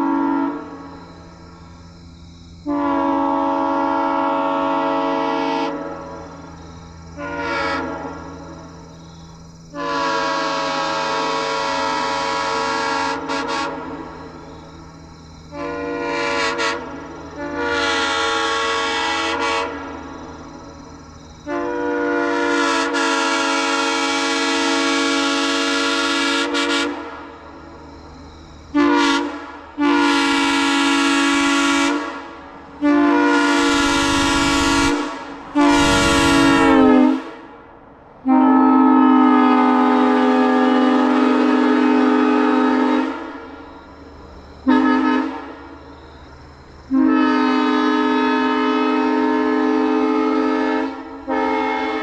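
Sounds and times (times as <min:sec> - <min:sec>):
locomotive air horn blasts: 0:00.0 - 0:01.4, 0:02.6 - 0:06.6, 0:07.2 - 0:08.8, 0:09.7 - 0:14.4, 0:15.5 - 0:20.2, 0:21.4 - 0:27.4, 0:28.7 - 0:37.6, 0:38.2 - 0:43.7, 0:44.6 - 0:45.8, 0:46.8 - 0:52.0.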